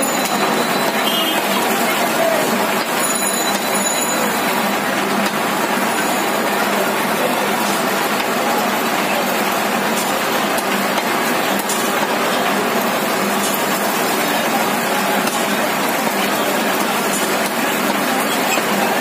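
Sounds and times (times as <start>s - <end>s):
market din: 0.0s - 19.0s
roadside traffic: 0.0s - 19.0s.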